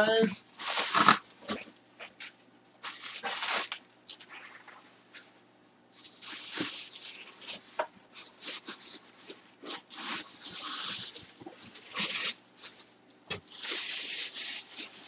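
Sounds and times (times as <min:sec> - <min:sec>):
packaging rustling and scraping: 0:00.5 - 0:04.8, 0:06.0 - 0:15.0.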